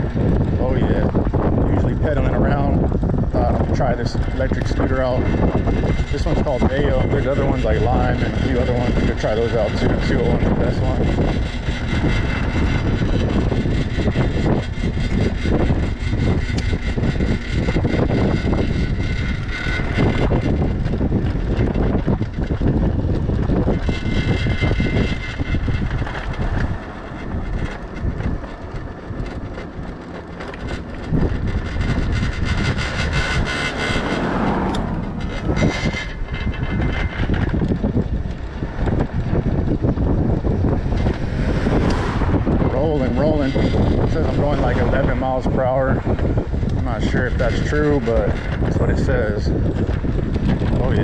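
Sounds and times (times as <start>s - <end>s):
high electric motor whine: 0.0s - 51.0s
road rumble: 0.0s - 51.0s
wind buffeting microphone: 0.0s - 51.0s.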